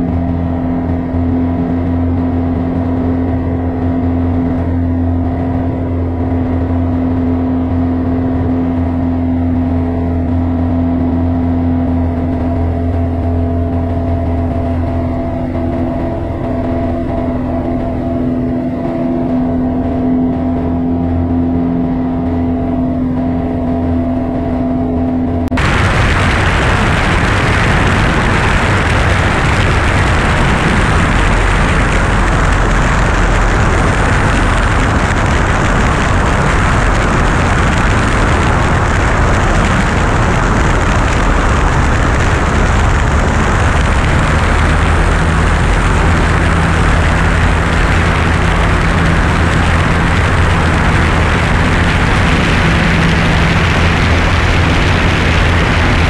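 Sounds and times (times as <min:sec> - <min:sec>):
airplane engine and propeller: 0:00.0 - 0:56.0
wind noise on microphone: 0:00.0 - 0:56.0.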